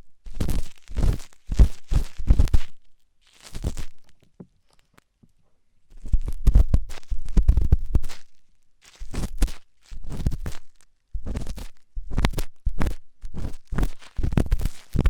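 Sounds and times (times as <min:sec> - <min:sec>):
scraping in microphone ear: 0:00.3 - 0:02.8, 0:03.4 - 0:04.8, 0:05.9 - 0:15.0.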